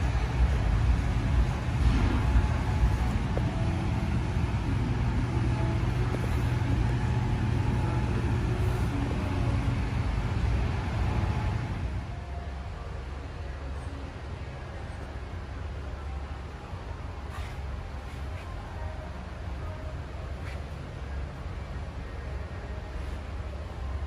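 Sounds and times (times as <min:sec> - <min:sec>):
faint indistinct sounds: 0:00.0 - 0:24.0
low rumble of gym room: 0:00.0 - 0:24.0.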